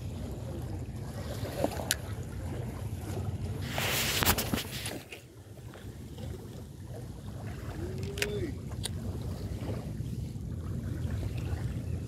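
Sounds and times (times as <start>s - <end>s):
small waves on rocky shore: 0.0s - 12.0s
wind: 0.0s - 12.0s.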